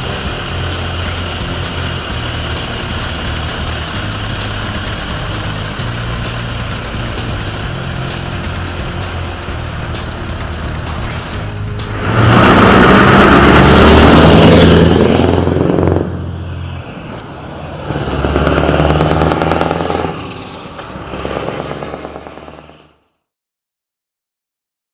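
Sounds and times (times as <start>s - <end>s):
diesel truck driving past: 0.0s - 23.3s.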